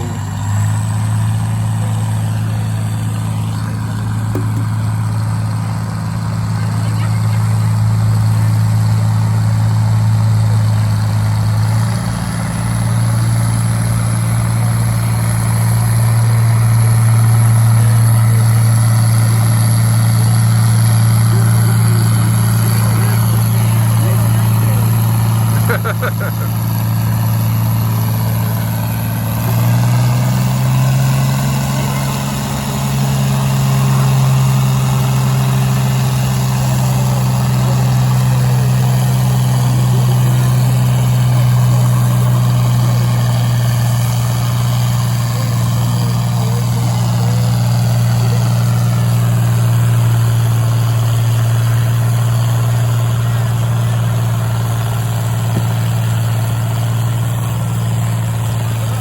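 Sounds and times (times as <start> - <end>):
tractor engine under heavy load: 0.0 - 59.0.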